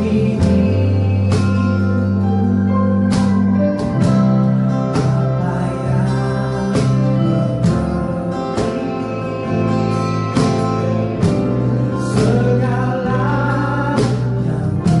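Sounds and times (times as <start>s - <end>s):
worship band music: 0.0s - 15.0s.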